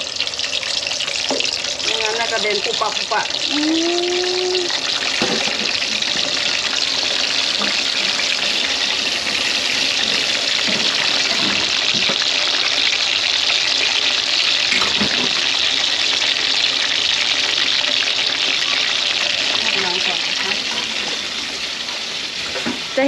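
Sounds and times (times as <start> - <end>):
oil sizzling and bubbling: 0.0 - 23.0.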